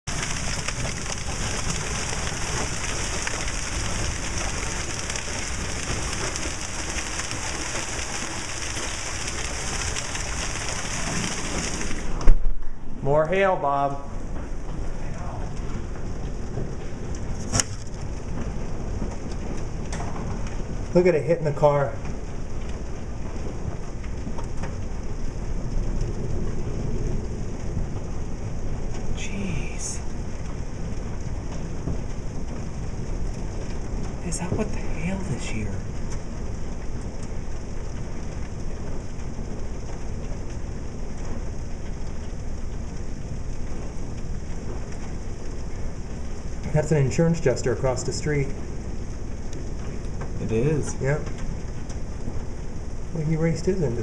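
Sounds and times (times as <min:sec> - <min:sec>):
hail and heavy rain: 0:00.0 - 0:12.5, 0:13.3 - 0:54.0.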